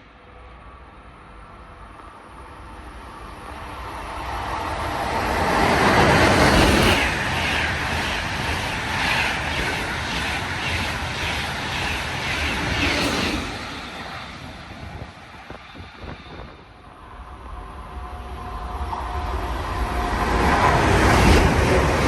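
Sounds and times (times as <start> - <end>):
rhythmic clatter of train wheels: 0.0 - 22.0
train rushing past: 0.0 - 22.0.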